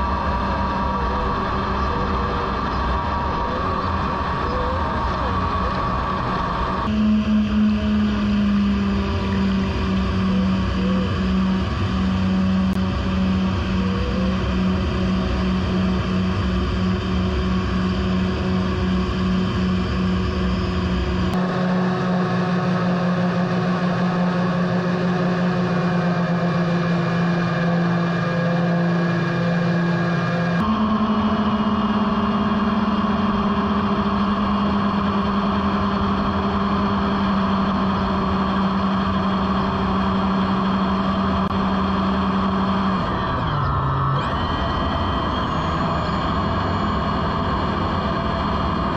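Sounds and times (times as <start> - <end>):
low rumble: 0.0 - 43.4
ducted fans humming: 0.0 - 48.9.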